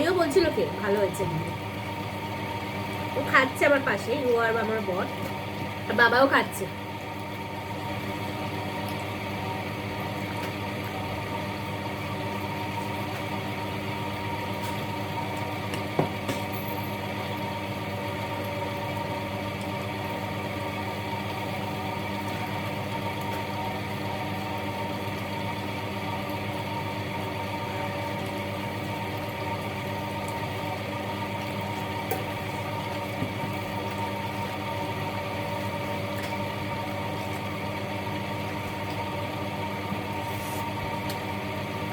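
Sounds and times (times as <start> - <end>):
mechanical hum: 0.0 - 41.9.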